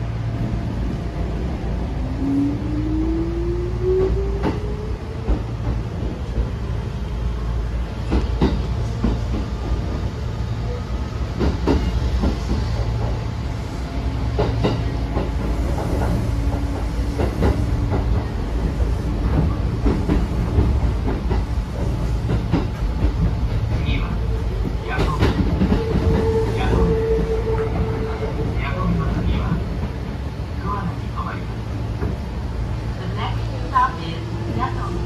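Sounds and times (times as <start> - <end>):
train interior rumble: 0.0 - 35.0.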